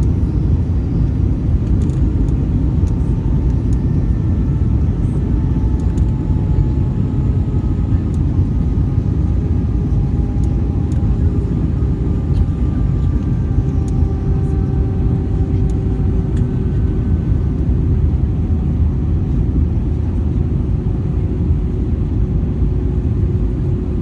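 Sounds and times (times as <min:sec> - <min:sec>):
aircraft cabin engine rumble: 0:00.0 - 0:24.0
faint engine tones: 0:00.0 - 0:24.0.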